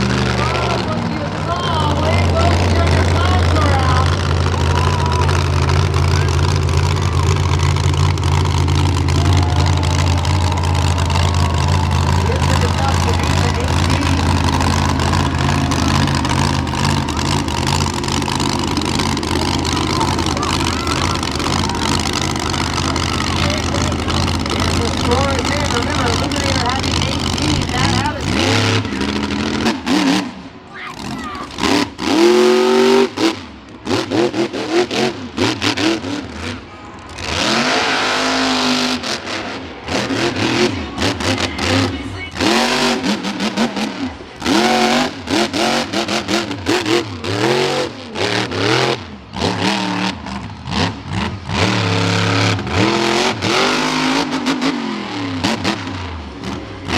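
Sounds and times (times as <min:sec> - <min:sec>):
truck engine droning: 0:00.0 - 0:56.9.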